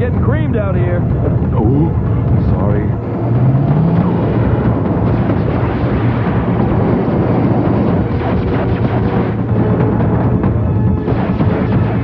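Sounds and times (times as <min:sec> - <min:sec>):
dramatic orchestral music: 0:00.0 - 0:12.0
rumble of explosions: 0:00.0 - 0:12.0.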